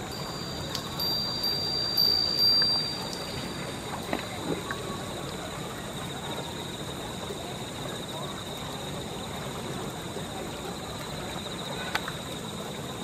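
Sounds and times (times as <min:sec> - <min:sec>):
outdoor background hiss: 0:00.0 - 0:13.0
thin high steady tone: 0:00.0 - 0:13.0.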